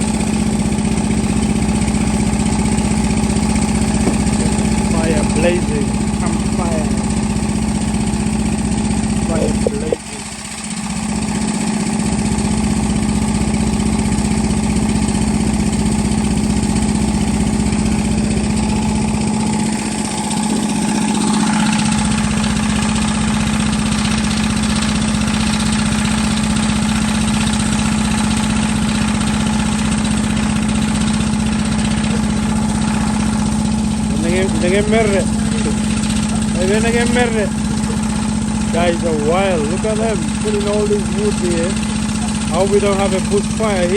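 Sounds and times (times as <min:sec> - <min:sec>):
drilling rig engine idling: 0:00.0 - 0:43.9.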